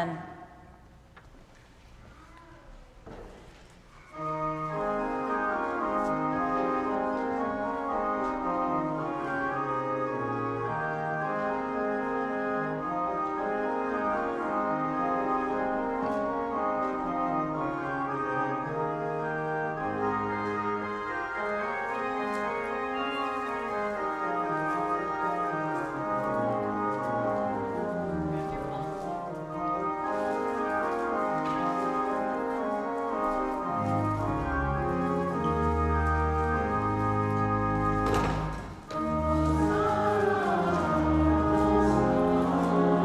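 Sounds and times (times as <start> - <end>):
church organ chords: 4.1 - 43.0.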